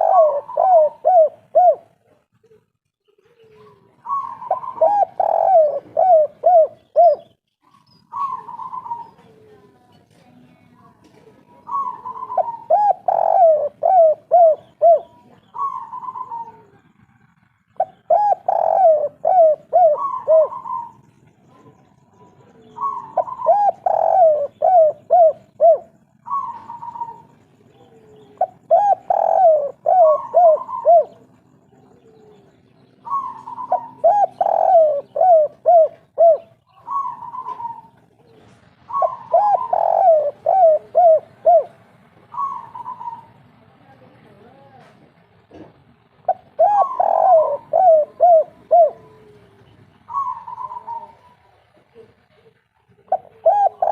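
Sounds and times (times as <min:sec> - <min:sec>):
dove cooing: 0:00.0 - 0:09.9, 0:11.0 - 0:43.5, 0:45.5 - 0:53.9.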